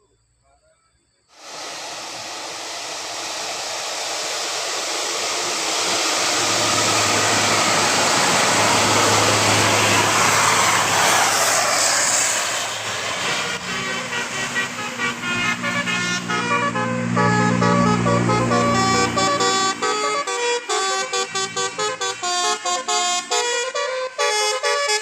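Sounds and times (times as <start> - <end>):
low engine hum: 1.4 - 23.8
bus driving by: 1.4 - 25.0.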